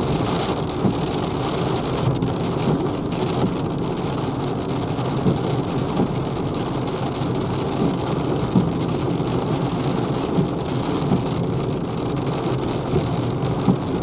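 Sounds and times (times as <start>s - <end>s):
rain on car windscreen and roof: 0.0s - 14.0s
tyres on wet road: 0.0s - 14.0s.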